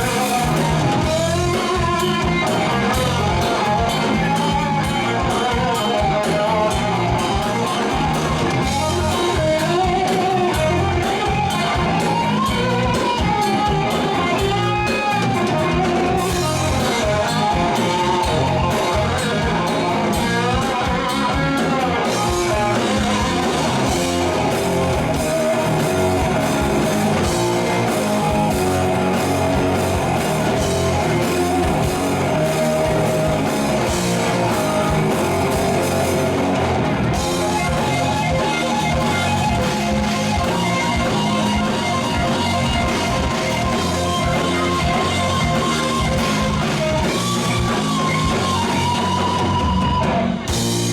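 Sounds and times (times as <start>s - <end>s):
drum kit: 0.0s - 50.9s
electric guitar: 0.0s - 50.9s.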